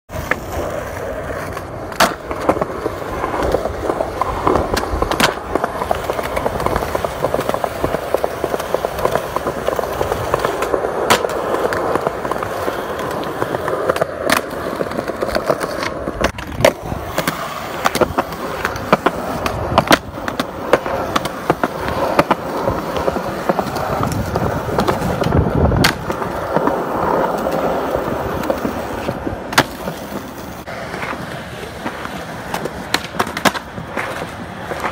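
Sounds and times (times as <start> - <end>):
skateboard clacking on ground: 0.1 - 34.9
skateboard wheels rolling on concrete: 0.1 - 34.9.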